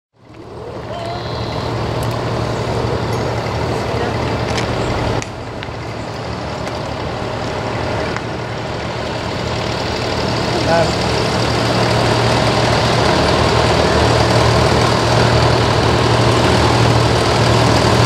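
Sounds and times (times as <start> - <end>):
distant tractor engines humming: 0.2 - 18.0.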